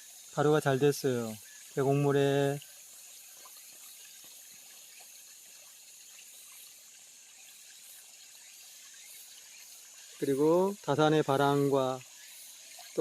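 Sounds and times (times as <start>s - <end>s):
stream trickling: 0.0s - 13.0s.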